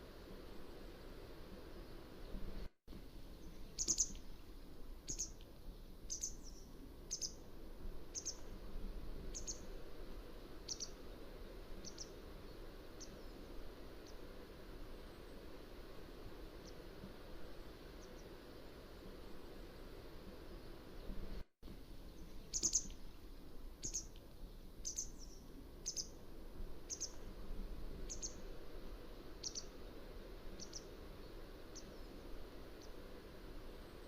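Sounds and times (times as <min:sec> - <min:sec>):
steady low background noise: 0:00.0 - 0:34.0.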